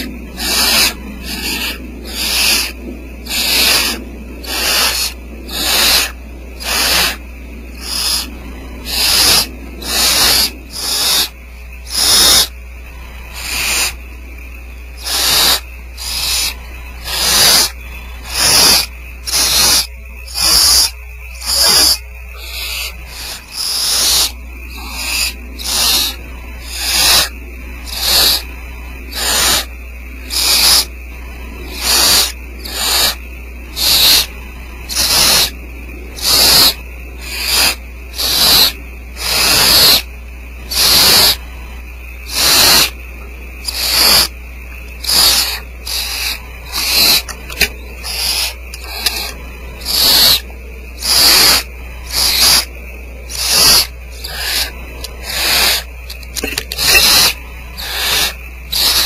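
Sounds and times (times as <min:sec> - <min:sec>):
owl chicks hissing begging calls: 0:00.0 - 0:14.0, 0:14.9 - 0:43.0, 0:43.6 - 0:59.0
low electrical hum: 0:00.0 - 0:59.0.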